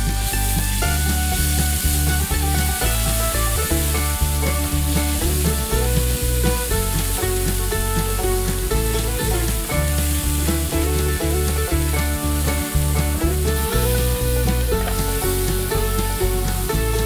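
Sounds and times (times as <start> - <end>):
background music with bass beat: 0.0 - 17.0
sauce sizzling in hot oil: 0.1 - 17.0.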